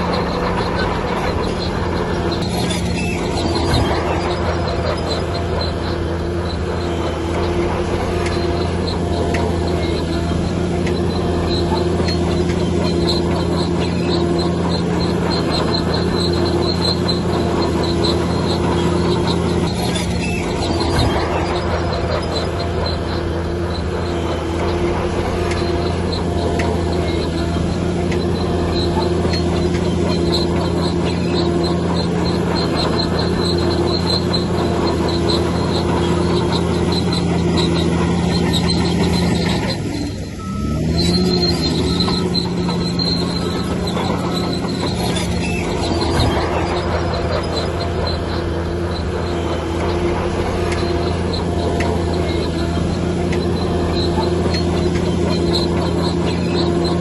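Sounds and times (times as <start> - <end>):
diesel engine running: 0.0 - 57.0
steel tracks squeaking: 0.0 - 57.0.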